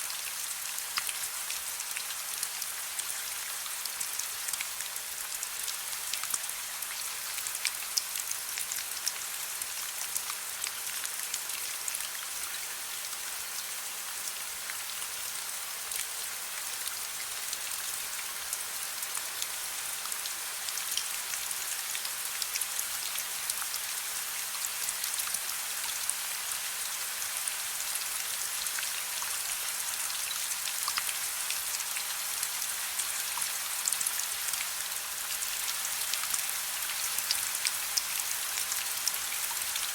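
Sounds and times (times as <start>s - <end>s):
gentle rain hiss: 0.0s - 39.9s.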